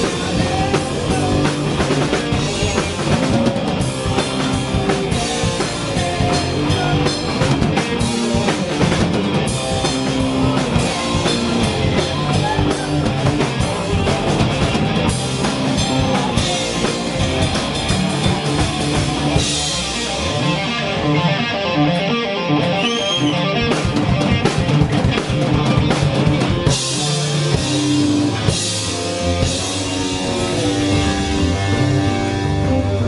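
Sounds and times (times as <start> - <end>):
drum kit with cymbals: 0.0 - 21.0, 23.1 - 33.0
bass guitar: 0.0 - 33.0
electric guitar: 0.0 - 33.0.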